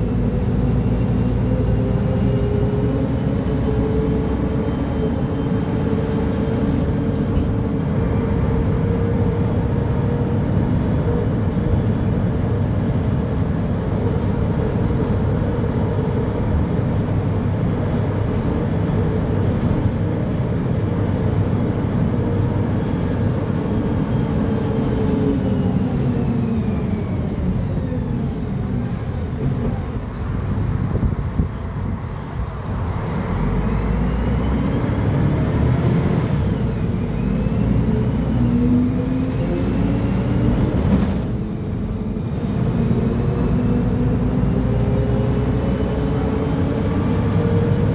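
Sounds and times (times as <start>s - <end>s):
bus engine whining: 0.0s - 47.9s.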